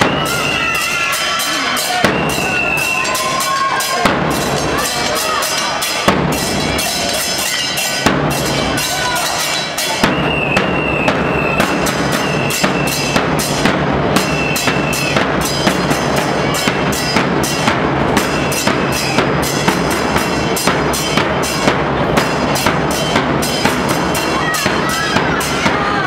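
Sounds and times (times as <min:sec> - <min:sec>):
bass drums beating: 0:00.0 - 0:07.4, 0:08.0 - 0:09.4, 0:10.0 - 0:26.0
cymbals: 0:00.0 - 0:26.0.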